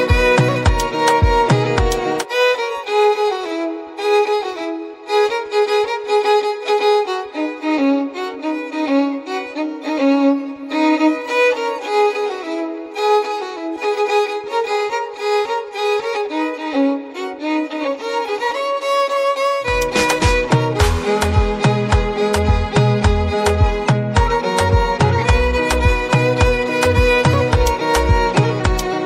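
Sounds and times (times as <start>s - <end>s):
violin melody: 0.0s - 29.0s.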